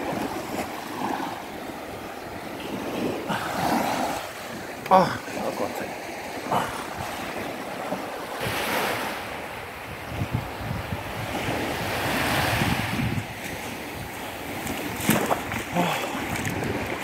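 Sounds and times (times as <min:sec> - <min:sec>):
small waves washing on sand: 0:00.0 - 0:17.0
wind buffeting microphone: 0:00.0 - 0:17.0.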